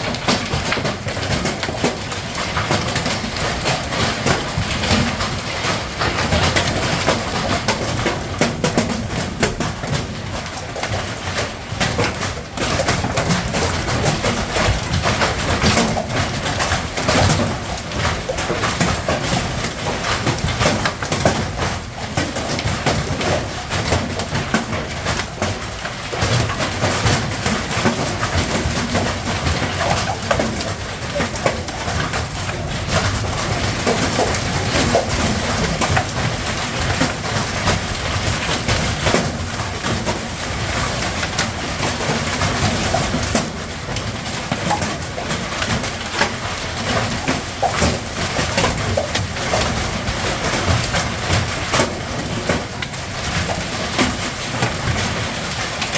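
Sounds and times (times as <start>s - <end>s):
light hail pattering: 0.0s - 55.9s.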